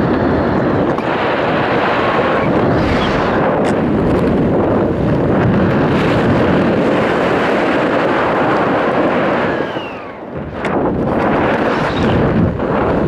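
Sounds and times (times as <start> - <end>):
wind rushing across microphone: 0.0 - 13.0.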